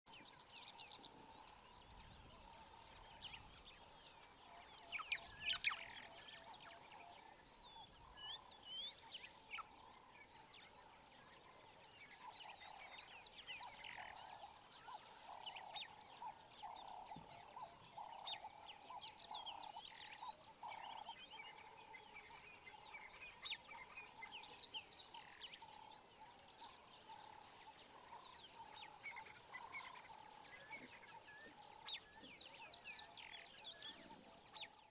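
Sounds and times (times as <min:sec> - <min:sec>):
small birds chirping: 0:00.1 - 0:34.9
frogs croaking: 0:00.4 - 0:34.7.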